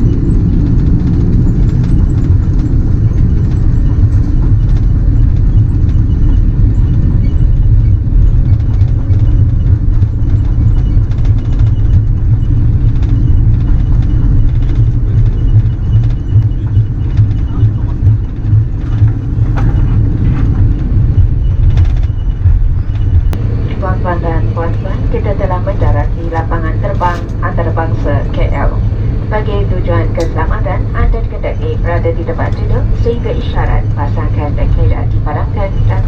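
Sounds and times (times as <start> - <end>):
jet cabin low rumble: 0.0 - 36.0.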